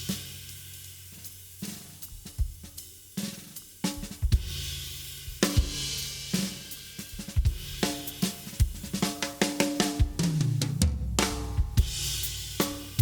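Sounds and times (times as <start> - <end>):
drum kit playing: 0.0 - 13.0.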